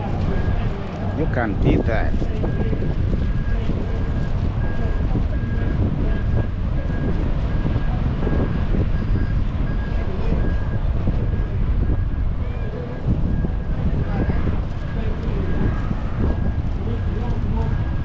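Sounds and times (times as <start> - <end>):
wind buffeting microphone: 0.0 - 18.0
faint high beep: 0.2 - 16.6.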